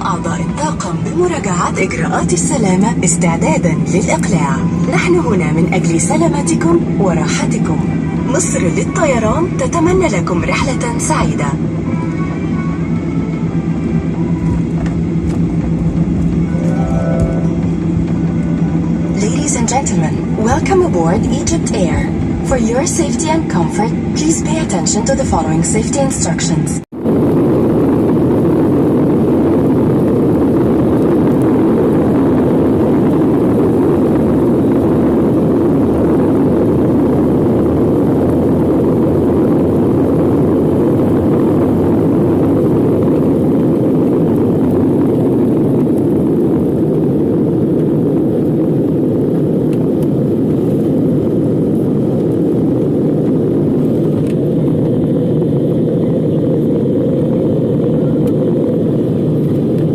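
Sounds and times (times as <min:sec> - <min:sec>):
jet engine and airflow rumble: 0:00.0 - 0:59.9.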